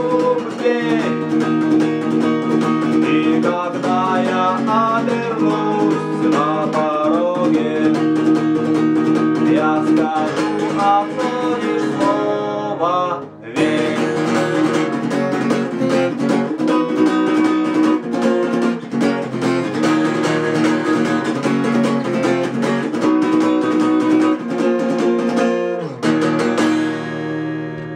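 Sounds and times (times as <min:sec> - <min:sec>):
acoustic guitar strumming chords: 0:00.0 - 0:27.9.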